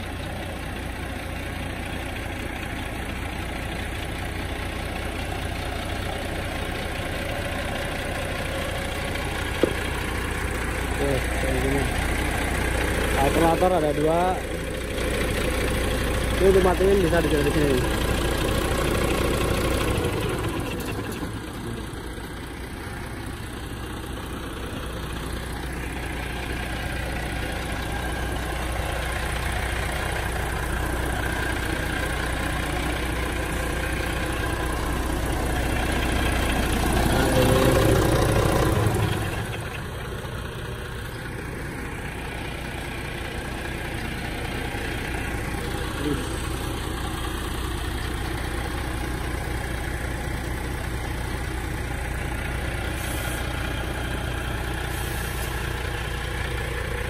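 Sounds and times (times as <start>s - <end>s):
diesel bus engines idling: 0.0s - 57.0s.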